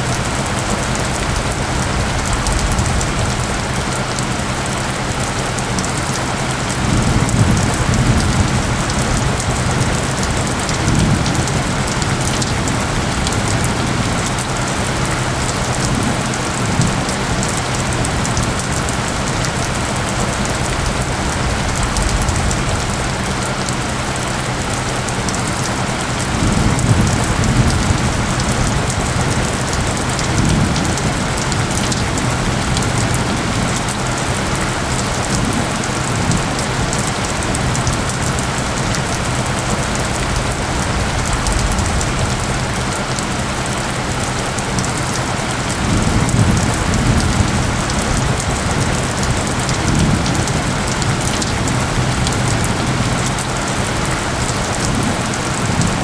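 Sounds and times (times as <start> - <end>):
dense rainfall: 0.0 - 56.0
distant thunder rumbles: 0.0 - 56.0
low isochronic tones: 0.0 - 56.0.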